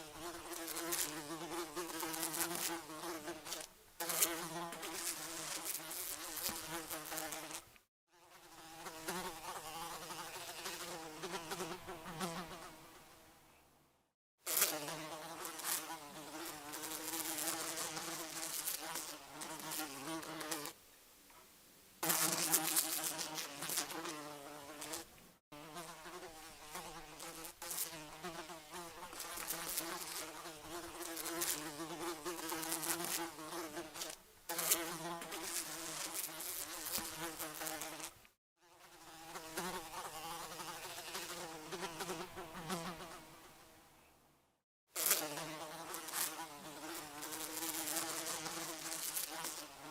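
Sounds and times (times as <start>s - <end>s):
fly buzzing: 0.0s - 13.1s, 14.4s - 20.8s, 22.0s - 43.6s, 44.9s - 49.9s.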